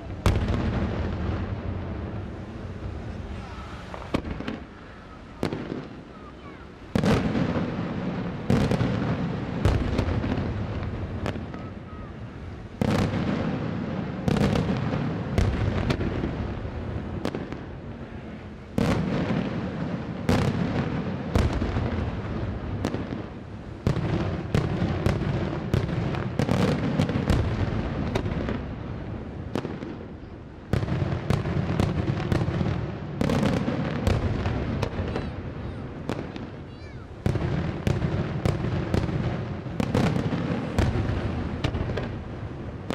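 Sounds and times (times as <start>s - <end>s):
fireworks bangs with rumble: 0.0s - 42.9s.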